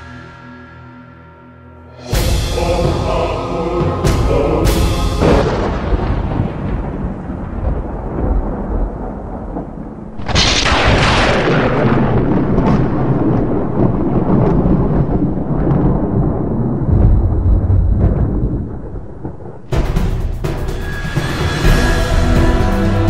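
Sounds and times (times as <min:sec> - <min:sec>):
loud thunder crack: 0:02.0 - 0:23.0
thunder crackles: 0:02.0 - 0:23.0
low thunder rumble: 0:02.1 - 0:22.8.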